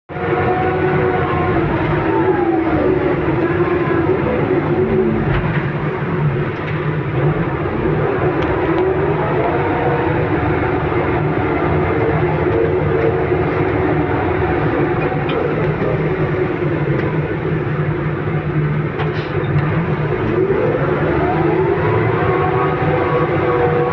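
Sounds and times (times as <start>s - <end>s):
vehicle engine under load: 0.1s - 23.9s.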